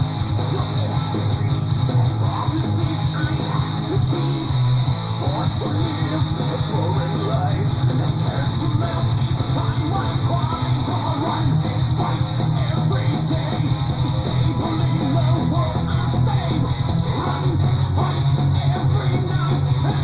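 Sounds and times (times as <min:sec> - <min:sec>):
melodic heavy metal music: 0:00.0 - 0:20.0.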